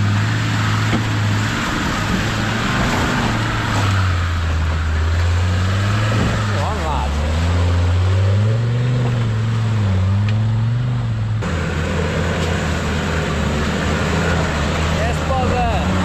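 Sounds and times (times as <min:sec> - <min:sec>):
engine working through mud: 0:00.0 - 0:16.0.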